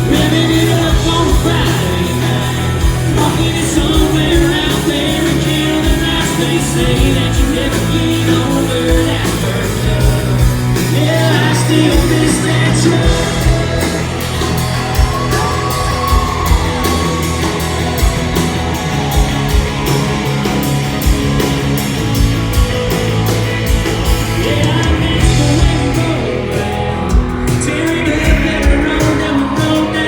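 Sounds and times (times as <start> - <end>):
country-rock band playing: 0.0 - 30.0
lead electric guitar bending notes: 0.0 - 30.0
steady drum beat: 0.0 - 30.0.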